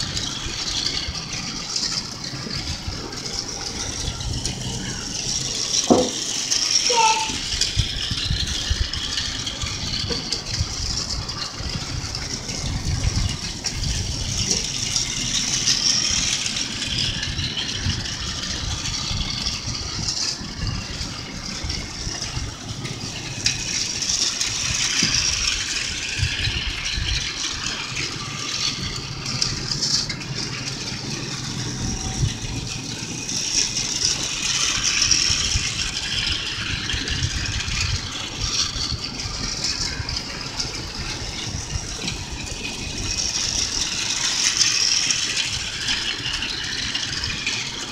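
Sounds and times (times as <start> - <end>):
toy train whirring and clattering: 0.0 - 47.9.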